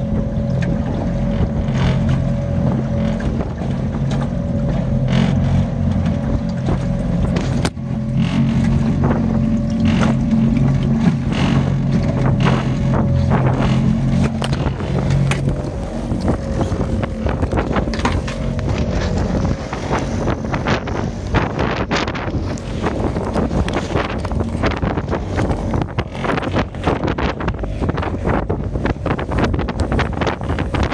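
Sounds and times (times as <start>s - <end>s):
boat engine running: 0.0s - 30.9s
wind buffeting: 0.0s - 30.9s.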